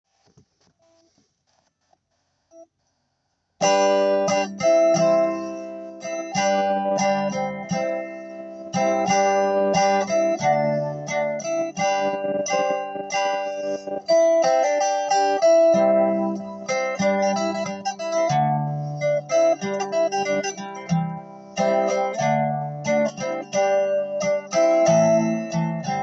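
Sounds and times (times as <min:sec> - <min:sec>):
guitar chords strummed: 0:03.6 - 0:26.0.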